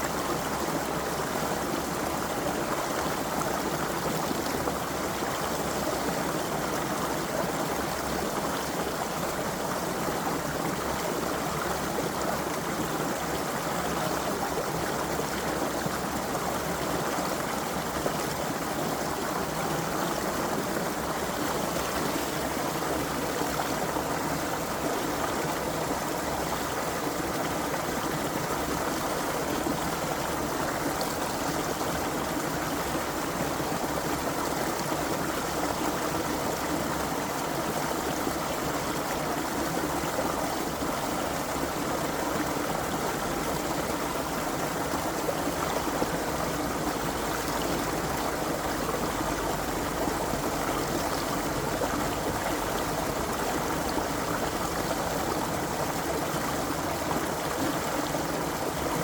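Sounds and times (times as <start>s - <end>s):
creek water flowing over stones: 0.0s - 59.0s.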